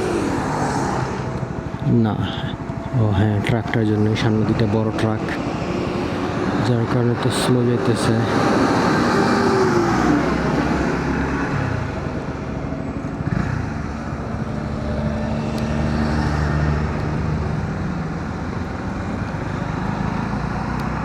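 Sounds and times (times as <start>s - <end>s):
motorcycle engine at low speed: 0.0s - 21.0s
road and wind noise: 0.0s - 21.0s.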